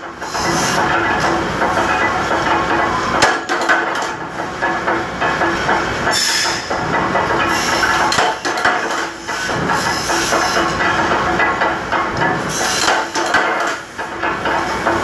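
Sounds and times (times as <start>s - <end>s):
metal-cutting machinery clatter: 0.0s - 15.0s.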